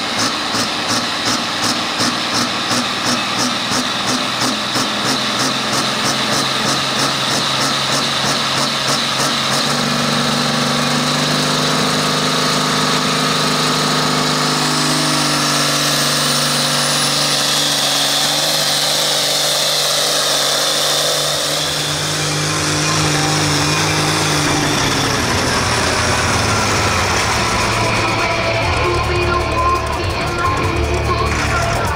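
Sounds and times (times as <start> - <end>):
high whine climbing in pitch: 0.0 - 31.9
tractor diesel engine under load: 0.0 - 31.9.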